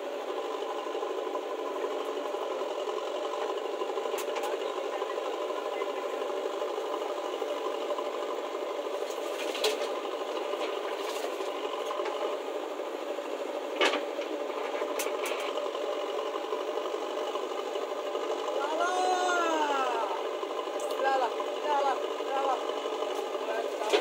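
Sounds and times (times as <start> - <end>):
diesel engine running: 0.0 - 24.0
backhoe digging soil: 0.8 - 12.4, 13.6 - 18.5, 20.7 - 24.0.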